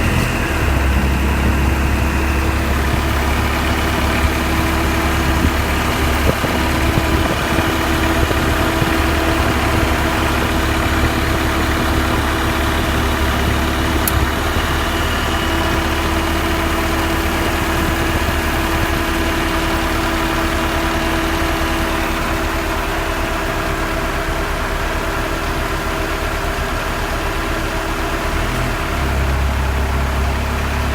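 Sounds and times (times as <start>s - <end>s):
ac compressor running: 0.0s - 30.9s
car engine idling: 0.0s - 30.9s.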